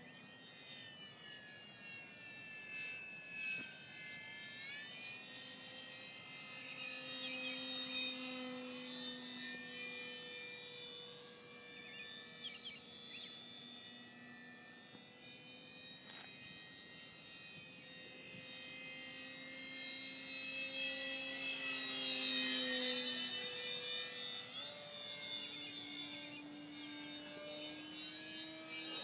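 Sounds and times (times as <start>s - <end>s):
model plane motor whine: 0.0s - 29.0s.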